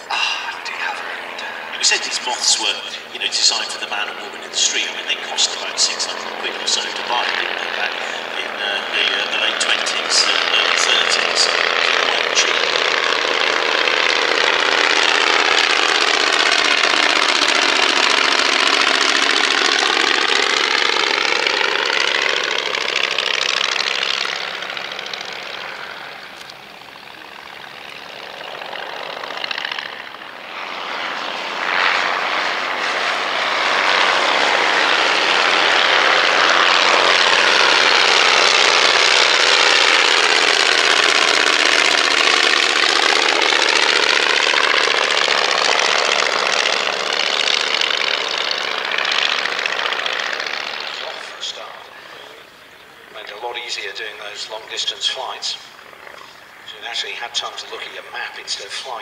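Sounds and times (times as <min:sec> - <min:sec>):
propeller aircraft flying low past: 0:00.0 - 0:59.0.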